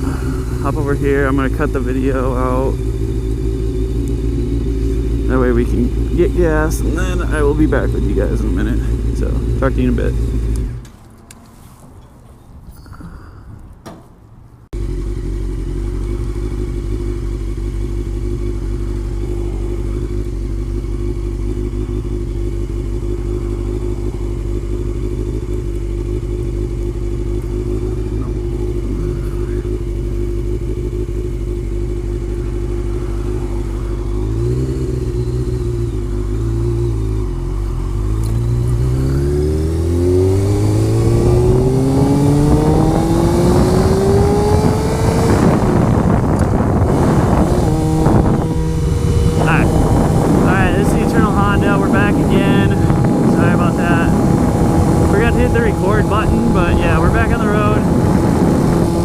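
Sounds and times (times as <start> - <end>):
motorcycle engine idling: 0.0 - 11.4, 14.7 - 59.0
motorcycle accelerating: 0.0 - 12.1, 14.7 - 59.0
motorcycle throttle blips: 0.0 - 59.0.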